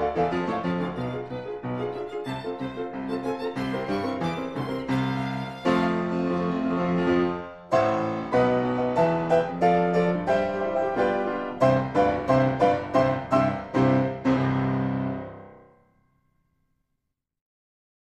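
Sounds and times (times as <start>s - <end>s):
solo piano music: 0.0s - 16.2s.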